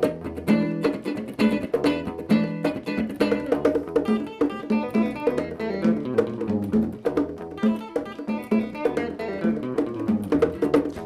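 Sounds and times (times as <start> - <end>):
electric guitars plucking: 0.0 - 11.0
hand drum percussion: 0.0 - 11.0.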